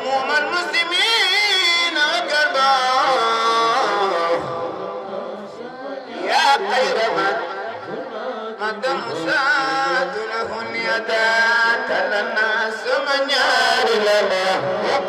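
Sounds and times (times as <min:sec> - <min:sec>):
men chanting over a sound system: 0:00.0 - 0:15.0.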